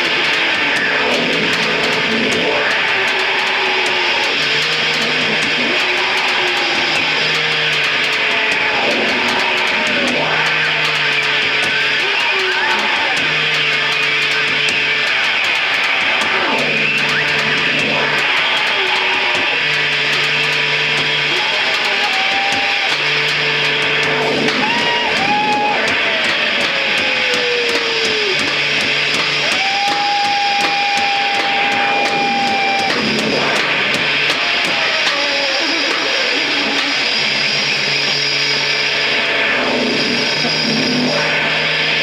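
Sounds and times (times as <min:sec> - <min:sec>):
distorted guitar-like noise: 0:00.0 - 0:42.0.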